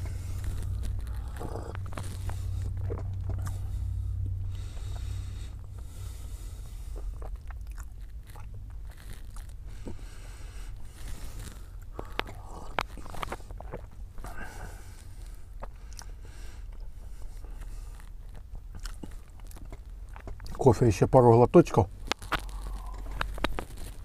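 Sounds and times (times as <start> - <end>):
low hum: 0.0 - 20.5, 21.8 - 24.0
man chewing pastry: 0.0 - 20.7, 21.9 - 24.0.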